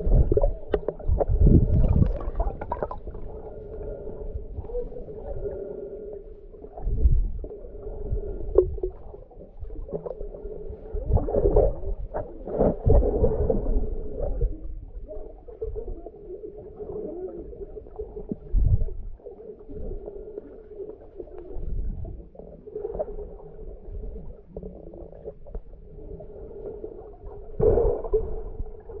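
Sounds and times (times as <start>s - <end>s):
swirling water underwater: 0.0s - 29.0s.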